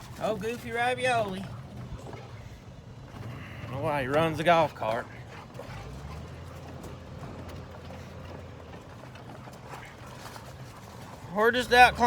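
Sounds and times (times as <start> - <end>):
golf cart running: 0.0 - 12.0.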